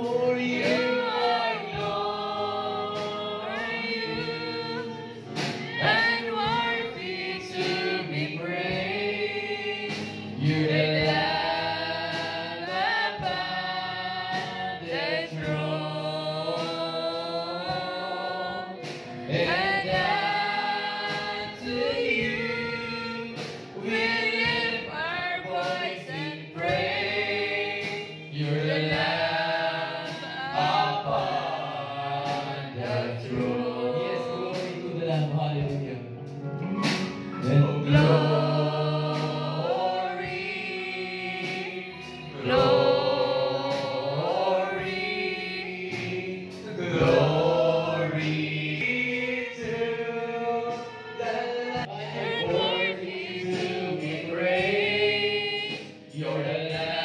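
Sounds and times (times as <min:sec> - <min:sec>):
congregation singing worship song: 0:00.0 - 0:57.0
instruments playing along: 0:00.0 - 0:57.0.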